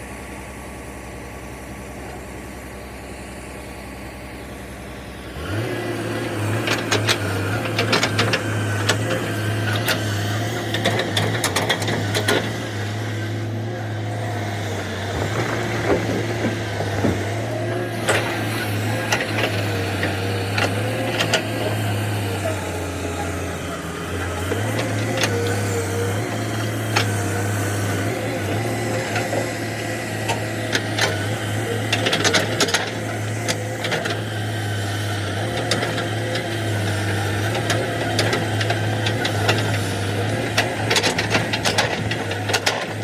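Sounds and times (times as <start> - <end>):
excavator engine running: 0.0 - 43.0.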